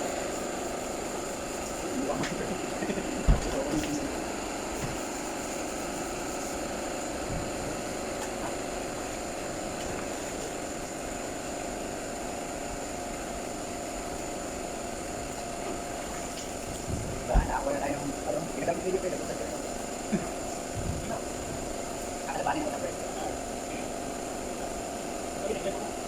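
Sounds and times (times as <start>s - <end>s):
machine humming with high whine: 0.0s - 26.0s.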